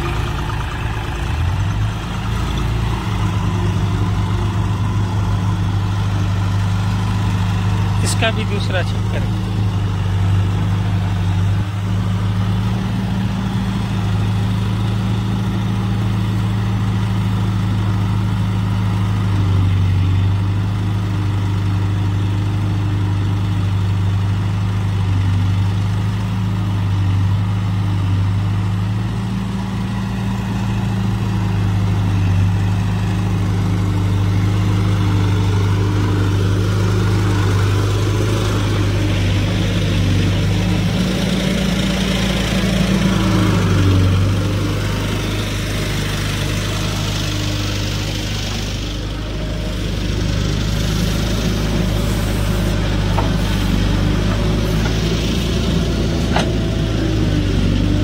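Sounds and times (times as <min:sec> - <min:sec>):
diesel engines humming: 0:00.0 - 0:58.0.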